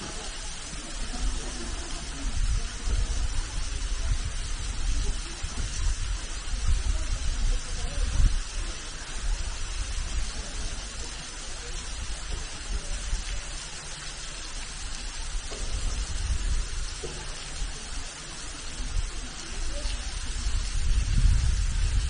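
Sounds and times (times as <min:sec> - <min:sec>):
creek flowing over rocks: 0:00.0 - 0:22.0
low water rumble: 0:00.0 - 0:22.0.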